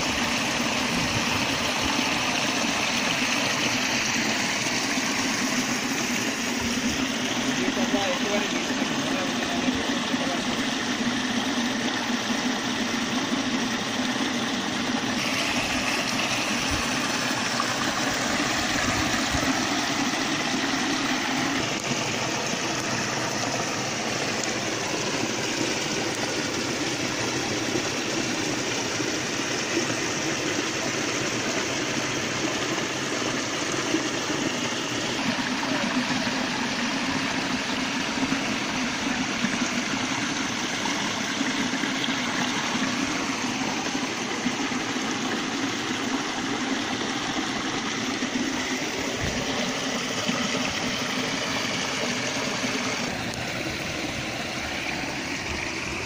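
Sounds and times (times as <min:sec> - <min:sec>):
stream water cascading over rocks: 0:00.0 - 0:56.0.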